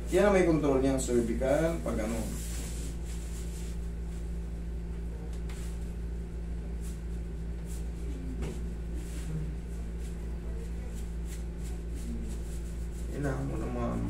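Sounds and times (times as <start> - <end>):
air conditioner humming: 0.0 - 14.0
soft brushing sounds: 0.0 - 14.0.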